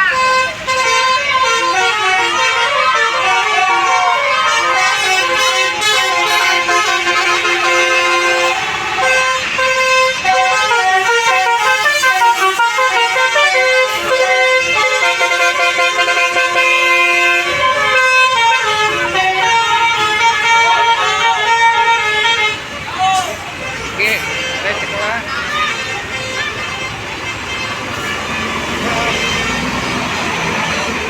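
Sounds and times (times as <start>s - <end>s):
bus musical horn: 0.0s - 31.0s.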